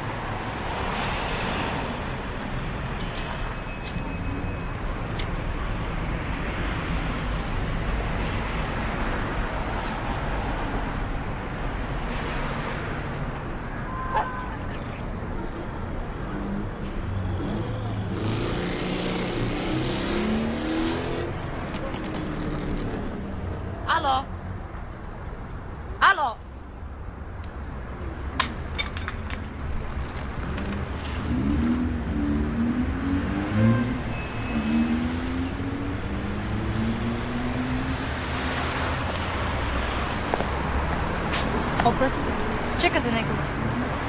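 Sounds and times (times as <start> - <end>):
road traffic: 0.0 - 44.0.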